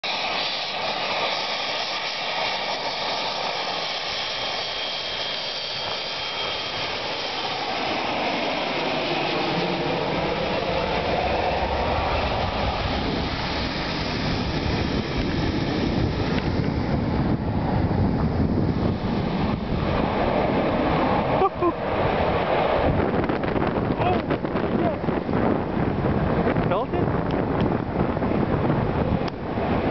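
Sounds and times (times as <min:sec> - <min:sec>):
deep jet rumble: 0:00.0 - 0:29.9
jet engine whine: 0:00.0 - 0:29.9.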